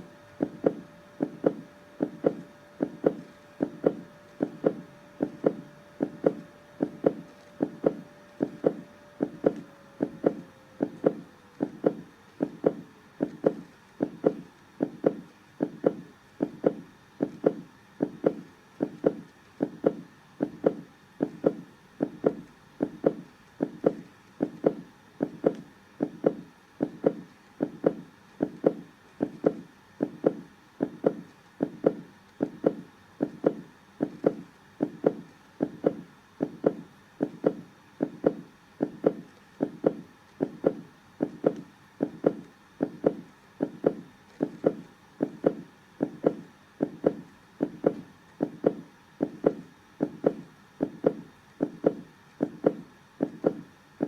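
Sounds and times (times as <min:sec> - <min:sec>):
heartbeat double thump: 0:00.0 - 0:53.7.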